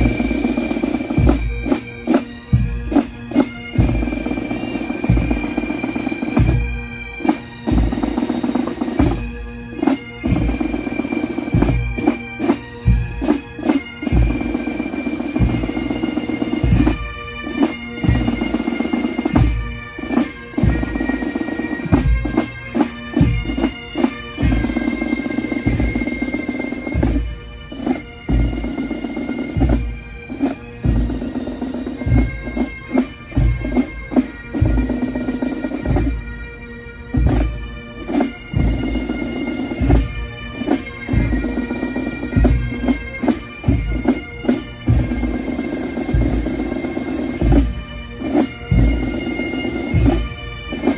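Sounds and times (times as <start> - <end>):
bagpipes playing: 0.0 - 50.9.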